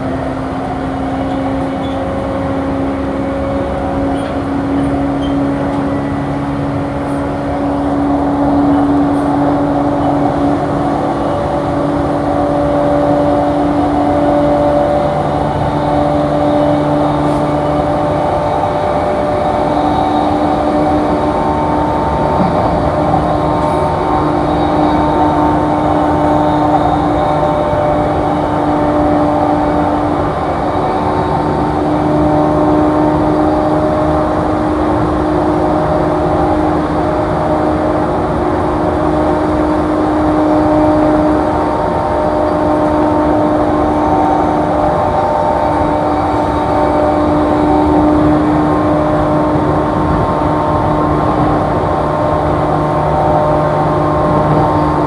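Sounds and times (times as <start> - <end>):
traction motor whine: 0.0 - 55.0
train wheels rumbling on rail: 0.0 - 55.0.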